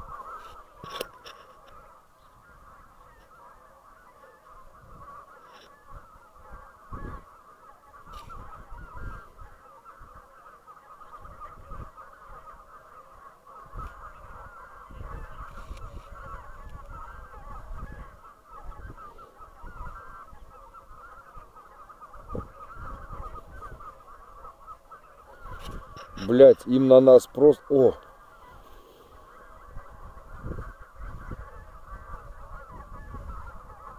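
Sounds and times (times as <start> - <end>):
geese honking: 0.0 - 33.9.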